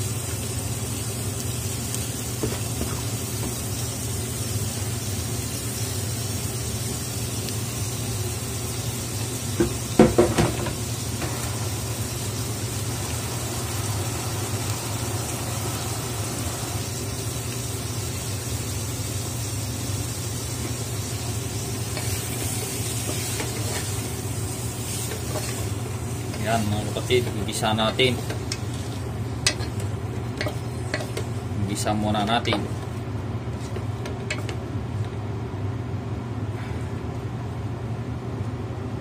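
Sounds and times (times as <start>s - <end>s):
food sizzling in a pot: 0.0s - 34.6s.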